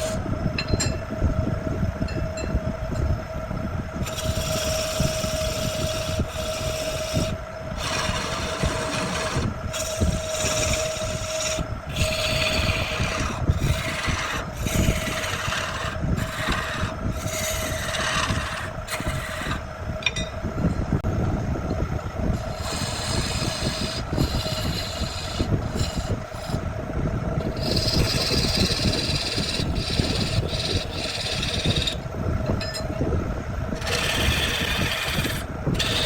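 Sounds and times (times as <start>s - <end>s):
machine hum with low rumble: 0.0s - 36.0s.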